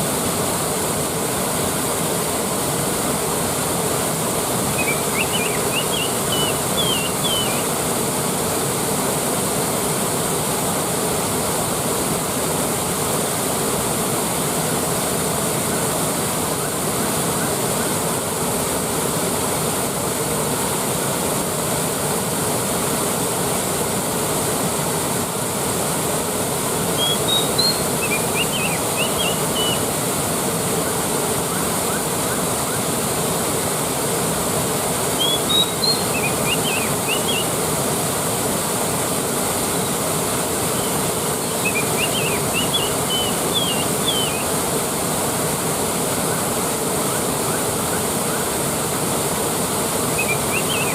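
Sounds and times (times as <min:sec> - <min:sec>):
waterfall roaring: 0:00.0 - 0:50.9.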